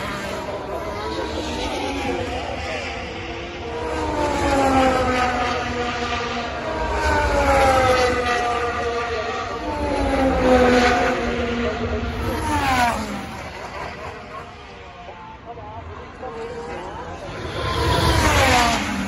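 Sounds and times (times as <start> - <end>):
race cars passing by: 0.0 - 19.0.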